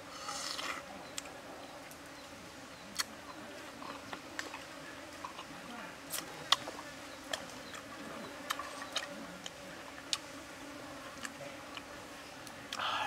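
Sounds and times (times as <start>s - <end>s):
insects humming: 0.0s - 13.0s.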